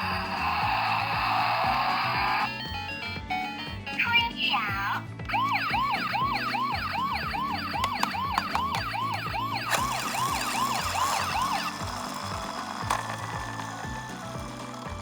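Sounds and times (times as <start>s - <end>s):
toy siren yelping: 0.0s - 2.8s, 4.0s - 15.0s.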